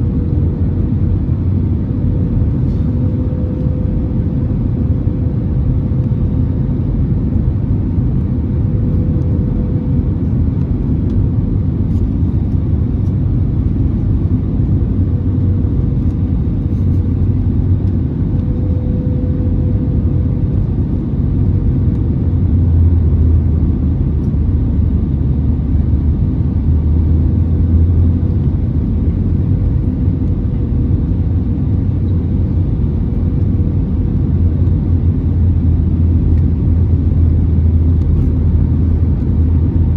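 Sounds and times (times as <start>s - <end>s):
airplane cabin engine rumble: 0.0s - 39.9s
faint steady hum: 0.0s - 39.9s.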